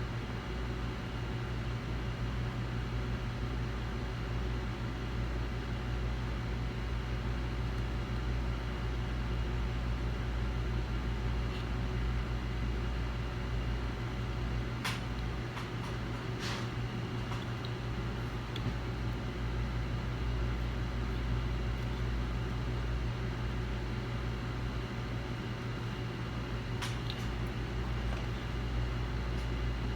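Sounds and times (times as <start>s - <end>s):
electrical fan-like hum: 0.0s - 29.9s.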